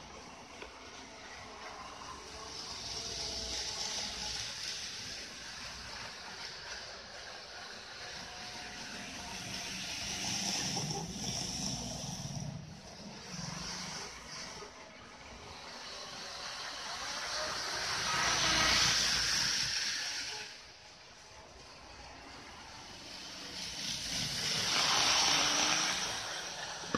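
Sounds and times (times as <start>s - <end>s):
model train wheels rattling on rail: 0.0s - 26.9s.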